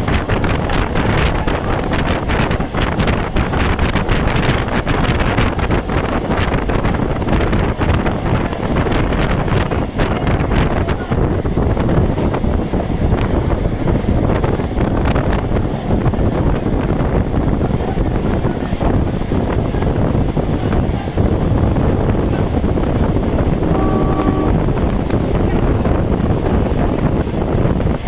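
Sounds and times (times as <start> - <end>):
low train rumble: 0.0 - 28.0
wind blowing across microphone: 0.0 - 28.0.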